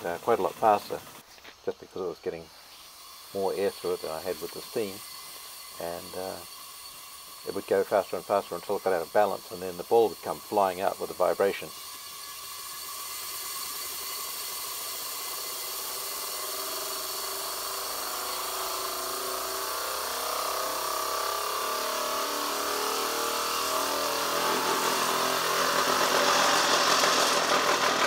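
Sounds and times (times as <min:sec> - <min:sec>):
spinning sphere whirring: 0:00.0 - 0:01.2, 0:02.8 - 0:28.0
air jets hissing: 0:00.0 - 0:28.0.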